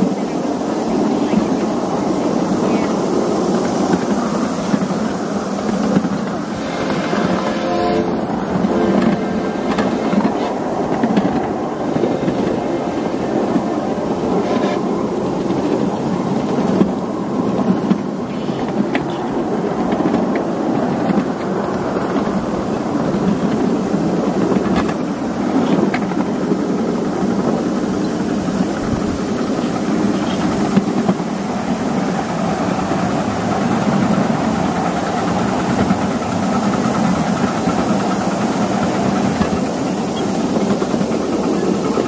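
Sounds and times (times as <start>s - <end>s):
miniature train rolling on track: 0.0s - 42.0s.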